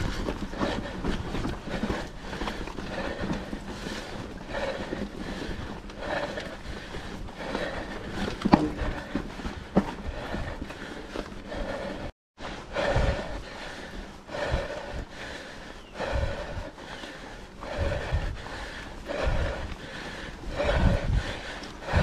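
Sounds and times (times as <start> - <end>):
person breathing hard: 0.0 - 22.0
tyres rumbling on dirt trail: 0.0 - 22.0.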